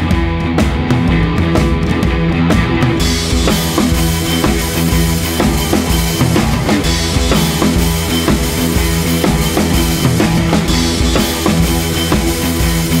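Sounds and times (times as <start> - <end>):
steady drum beat: 0.0 - 13.0
sustained bass notes: 0.0 - 13.0.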